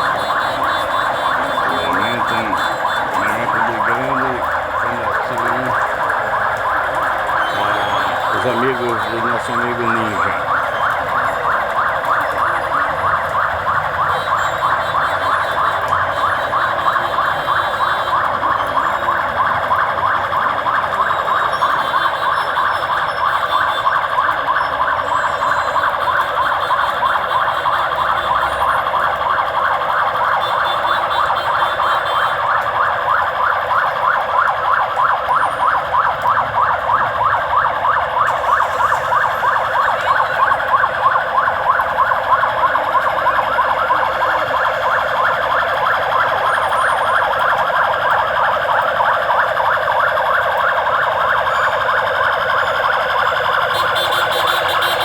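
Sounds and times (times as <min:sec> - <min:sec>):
emergency siren yelping: 0:00.0 - 0:55.0.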